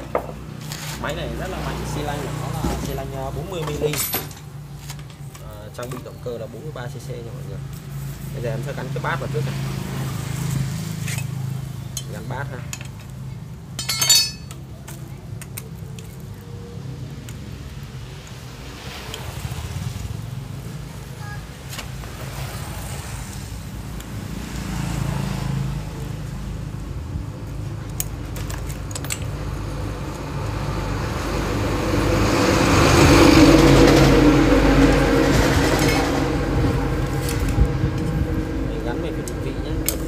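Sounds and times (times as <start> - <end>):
passing road traffic: 0.0 - 40.0.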